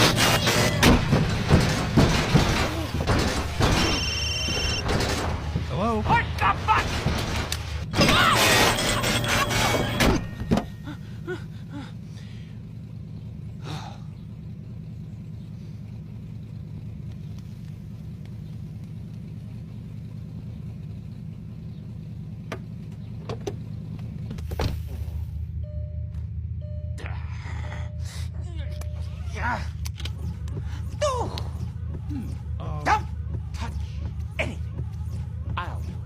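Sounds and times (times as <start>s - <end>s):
car engine rumbling: 0.0s - 36.0s.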